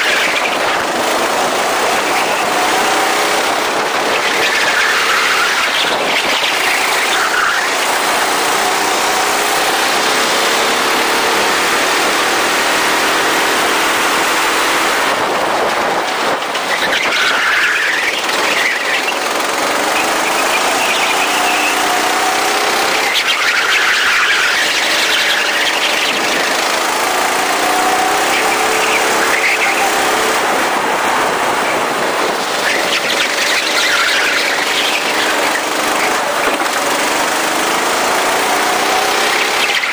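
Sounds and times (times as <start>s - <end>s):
go-kart engines revving: 0.0s - 39.9s
steady rush of noise: 0.0s - 39.9s.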